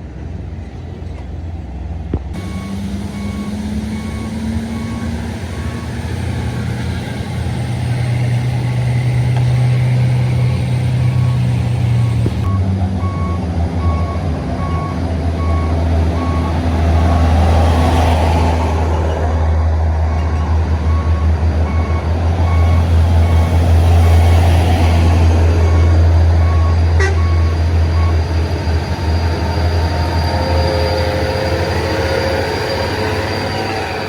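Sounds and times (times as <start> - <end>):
heavy vehicle engine running: 0.0 - 34.0
beeping alarm: 2.4 - 18.6, 19.5 - 34.0.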